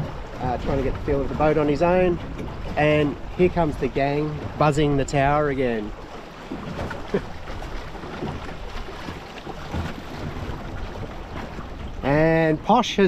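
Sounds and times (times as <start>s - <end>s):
wind buffeting microphone: 0.0s - 12.7s
water washing along hull: 0.0s - 13.0s.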